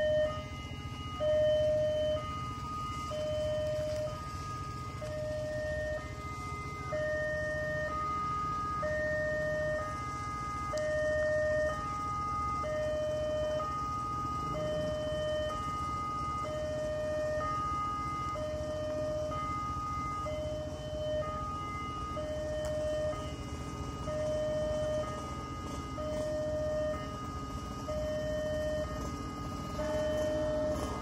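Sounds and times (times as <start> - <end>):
level crossing two-tone alarm: 0.0 - 31.0.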